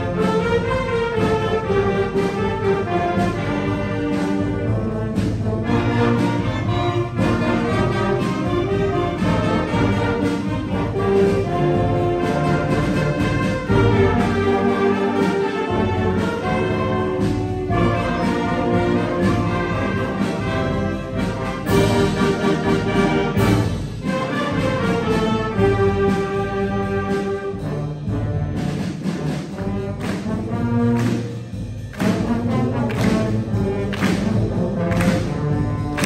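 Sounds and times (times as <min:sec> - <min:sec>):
concert band playing: 0:00.0 - 0:36.0
percussion strokes: 0:00.0 - 0:36.0.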